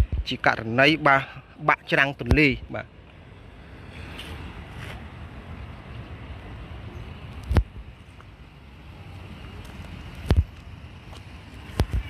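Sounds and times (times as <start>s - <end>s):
wind buffeting microphone: 0.0s - 0.6s, 2.2s - 12.0s.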